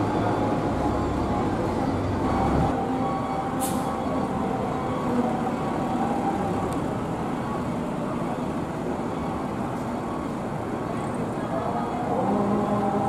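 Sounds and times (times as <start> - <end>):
bus diesel engines running: 0.0 - 13.0.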